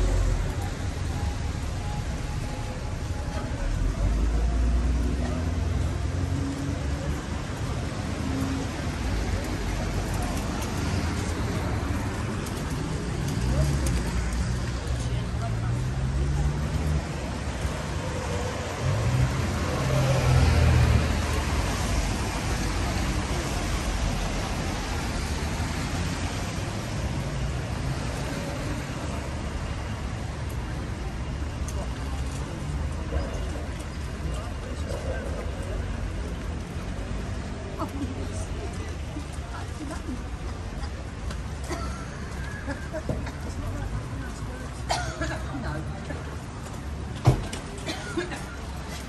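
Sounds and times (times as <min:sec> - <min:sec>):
engines passing: 0:00.0 - 0:49.0
hiss of city traffic: 0:00.0 - 0:49.0
vehicle low rumble: 0:00.0 - 0:49.0.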